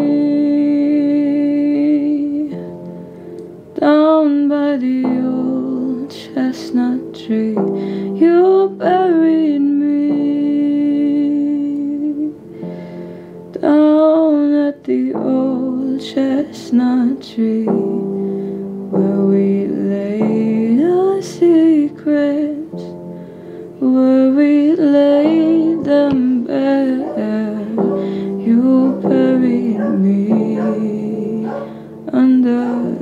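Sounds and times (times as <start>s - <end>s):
woman singing: 0.0s - 2.7s, 3.8s - 12.4s, 13.5s - 18.3s, 18.9s - 23.0s, 23.8s - 33.0s
soft instrumental chords: 0.0s - 33.0s.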